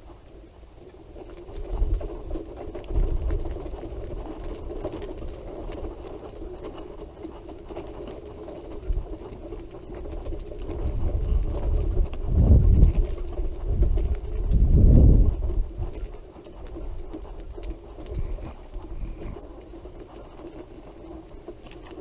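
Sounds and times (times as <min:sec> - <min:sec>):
low rumbling of wheels: 0:00.0 - 0:22.0
wheelchair motor hum: 0:00.1 - 0:22.0.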